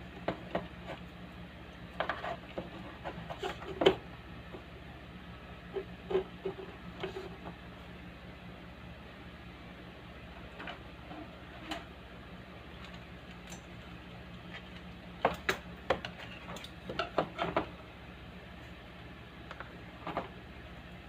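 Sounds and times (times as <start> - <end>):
speaker mains hum: 0.0 - 21.0.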